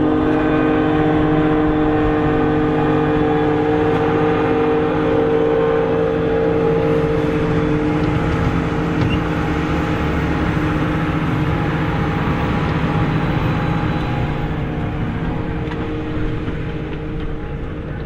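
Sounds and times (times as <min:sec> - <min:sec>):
diesel machinery engine drone: 0:00.0 - 0:18.0.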